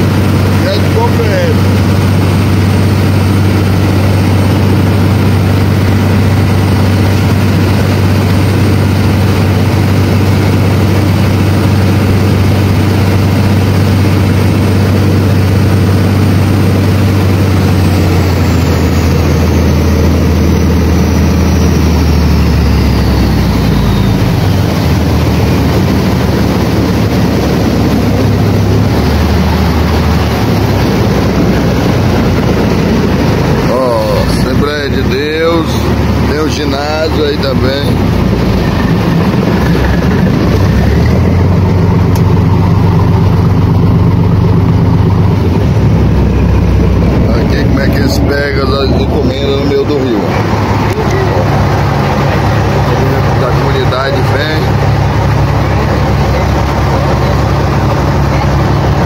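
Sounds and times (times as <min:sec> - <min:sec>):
high whine sliding down: 0:00.0 - 0:59.0
speedboat motor droning: 0:00.0 - 0:59.0
water rushing along hull: 0:00.0 - 0:59.0.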